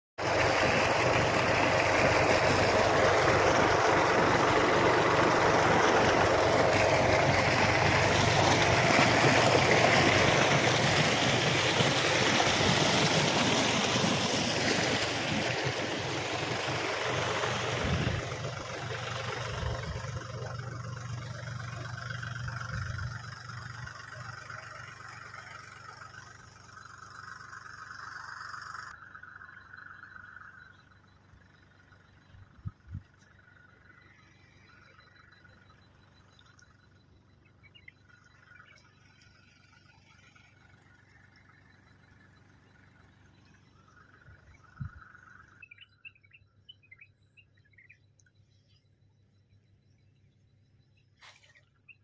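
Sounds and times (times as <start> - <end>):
engine running: 0.2 - 52.0.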